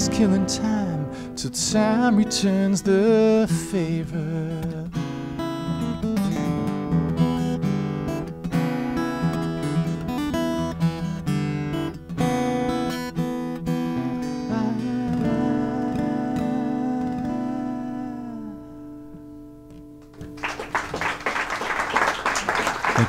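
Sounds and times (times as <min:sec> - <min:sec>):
acoustic guitar strumming: 0:00.0 - 0:20.6.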